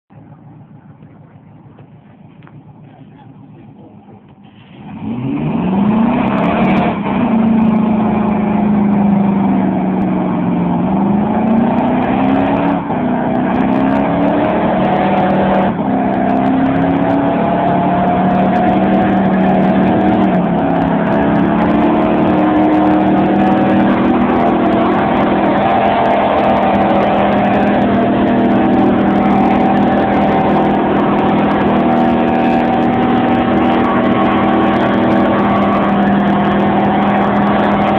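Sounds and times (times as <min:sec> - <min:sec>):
engine revving hard: 0:02.8 - 0:37.9
tyres spinning on tarmac: 0:05.7 - 0:37.9.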